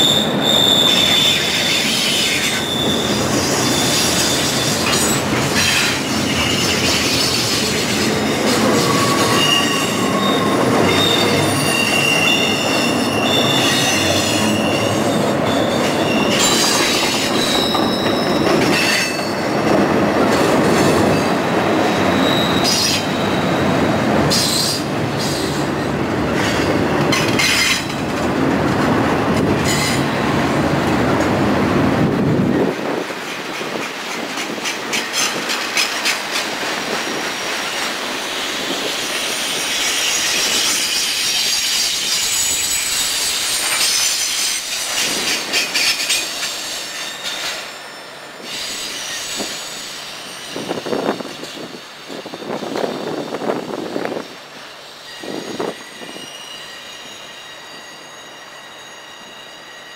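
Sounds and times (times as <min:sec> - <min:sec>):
high wheel squeal: 0:00.0 - 0:19.6, 0:21.2 - 0:28.0, 0:37.6 - 0:59.9
wheels rumbling on rail: 0:00.0 - 0:59.9.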